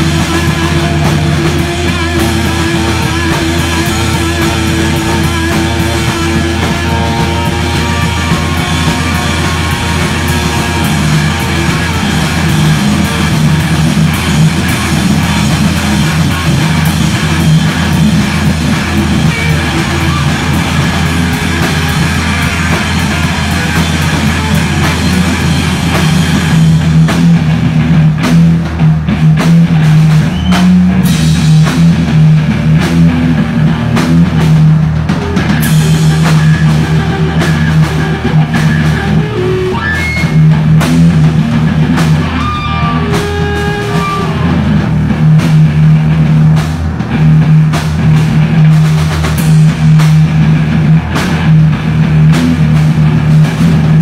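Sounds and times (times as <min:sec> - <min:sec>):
distorted electric guitars: 0:00.0 - 0:54.0
drum kit beat: 0:00.0 - 0:54.0.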